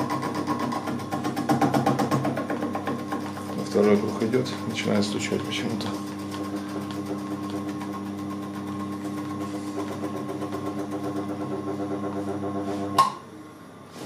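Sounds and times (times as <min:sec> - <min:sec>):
milling machine humming: 0:00.0 - 0:13.8.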